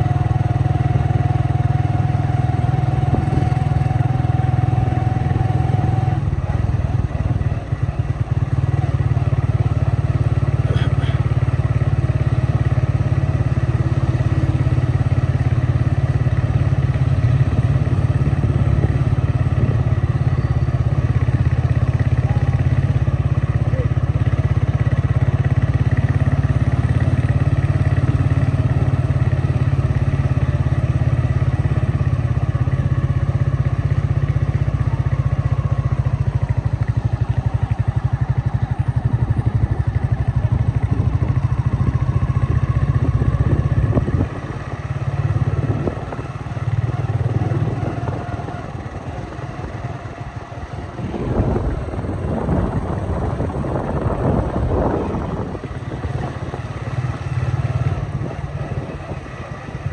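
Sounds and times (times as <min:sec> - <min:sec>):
vehicle engine rumbling: 0:00.0 - 0:59.9.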